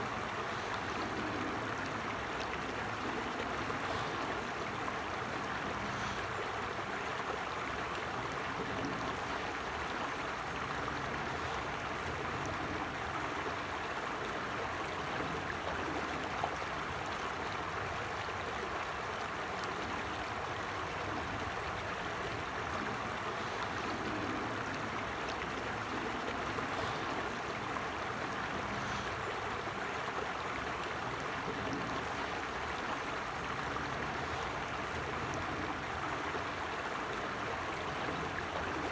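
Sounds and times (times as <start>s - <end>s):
creek babbling over stones: 0.0s - 38.9s.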